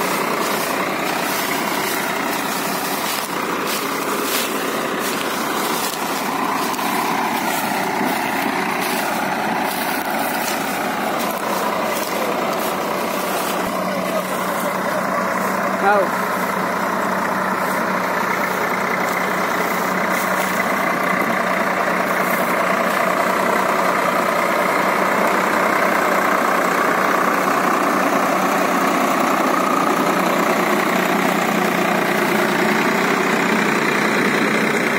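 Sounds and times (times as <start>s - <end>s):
tractor diesel engines running: 0.0s - 34.9s.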